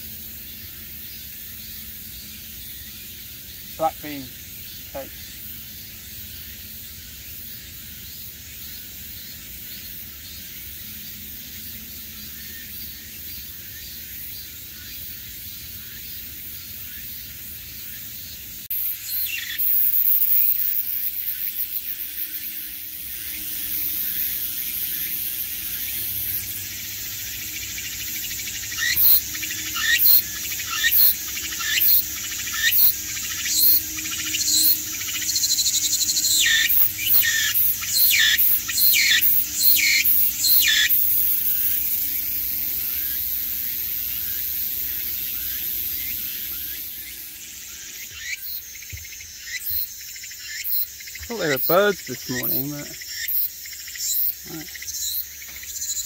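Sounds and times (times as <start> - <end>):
cicada chorus buzzing: 0.0 - 56.0
close cicada pulsed calls: 0.0 - 56.0.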